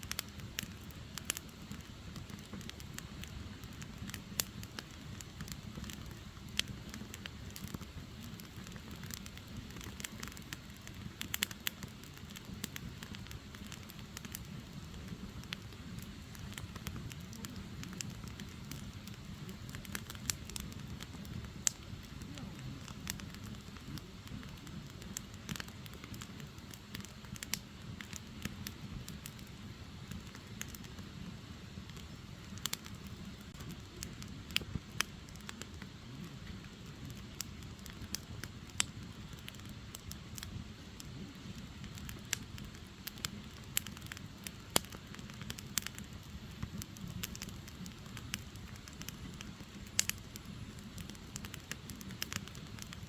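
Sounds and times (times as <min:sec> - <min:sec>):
fire rumbling: 0:00.0 - 0:53.0
logs crackling and popping: 0:00.0 - 0:53.0.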